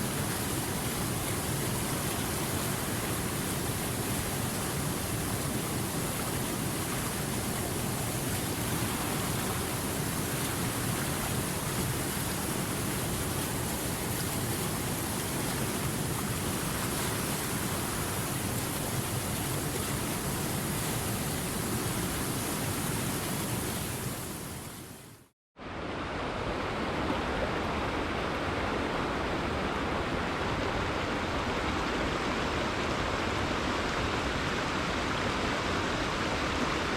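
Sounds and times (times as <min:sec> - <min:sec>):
rushing river water: 0:00.0 - 0:36.9.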